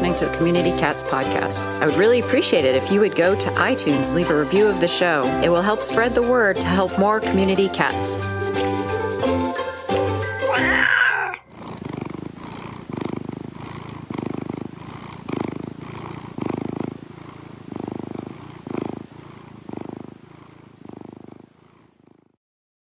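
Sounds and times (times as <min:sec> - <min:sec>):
cat purring: 0:00.0 - 0:08.3, 0:10.8 - 0:22.4.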